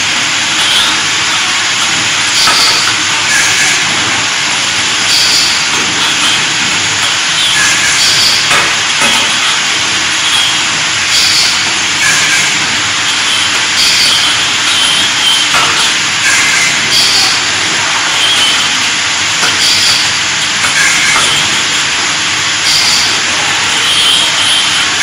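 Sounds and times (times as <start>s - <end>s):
laser welding machine hissing: 0.0s - 25.0s.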